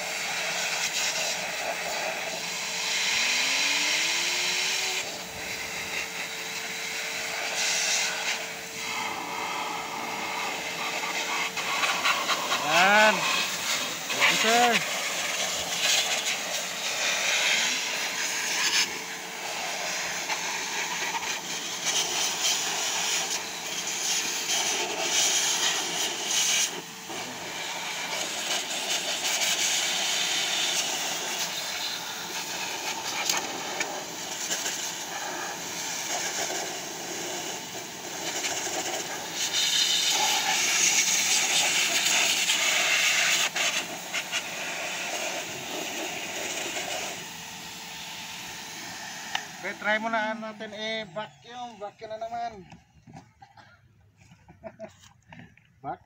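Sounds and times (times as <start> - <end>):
air rushing from hose: 0.0 - 51.3
vacuum motor humming: 0.0 - 53.4.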